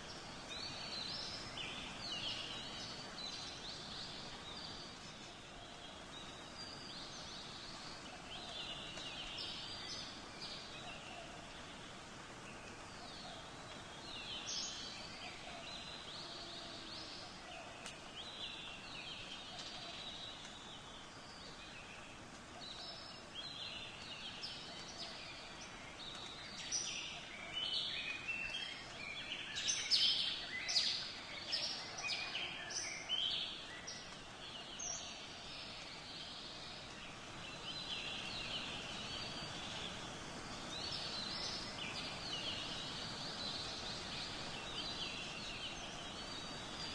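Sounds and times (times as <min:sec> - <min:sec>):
birds chirping: 0:00.0 - 0:46.9
steady background hiss: 0:00.0 - 0:46.9.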